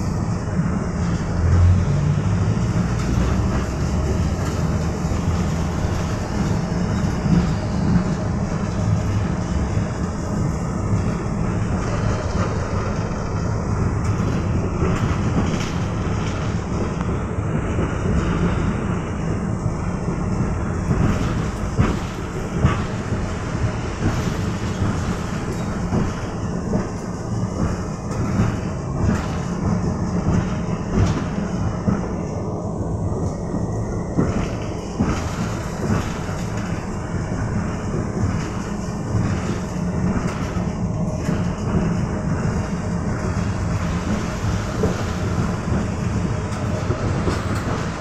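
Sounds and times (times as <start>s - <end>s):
tram running rumble: 0.0s - 48.0s.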